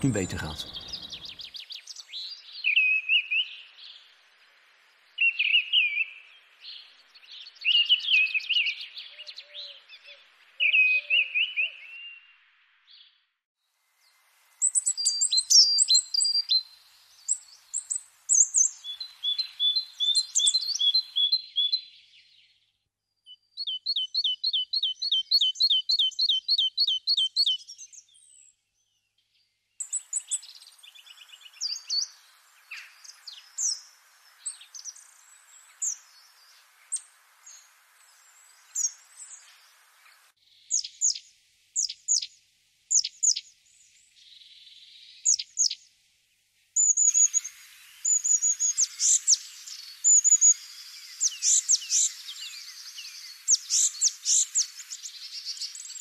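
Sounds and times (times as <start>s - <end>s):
songbirds singing and chirping: 0.0s - 13.2s, 14.1s - 45.9s, 46.8s - 56.0s.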